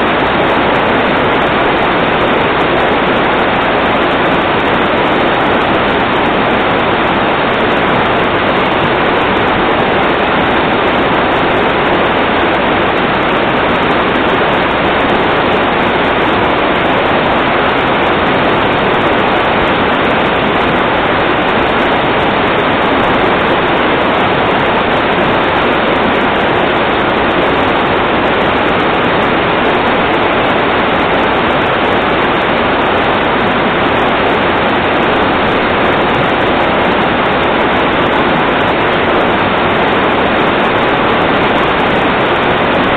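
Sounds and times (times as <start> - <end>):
water rushing: 0.0 - 42.9.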